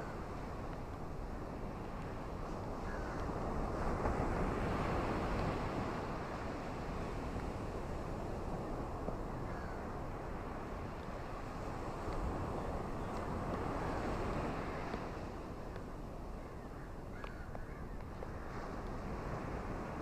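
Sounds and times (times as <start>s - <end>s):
ocean surf washing on shore: 0.0s - 16.4s, 18.0s - 20.0s.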